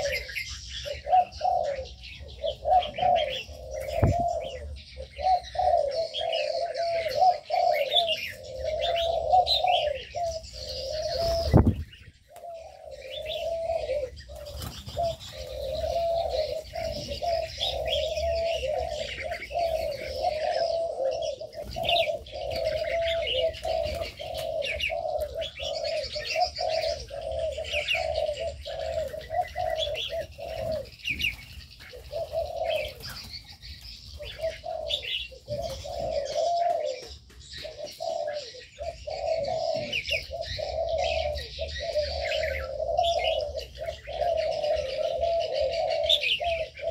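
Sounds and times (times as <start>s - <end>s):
doves cooing: 0.0s - 46.9s
small birds chirping: 0.0s - 46.9s.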